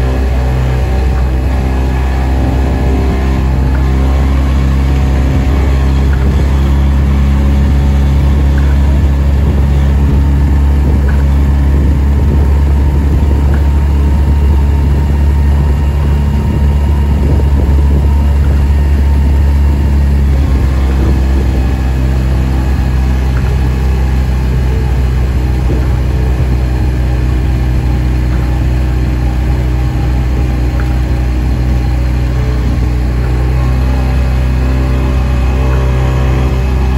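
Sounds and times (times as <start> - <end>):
outboard motor running: 0.0 - 36.9.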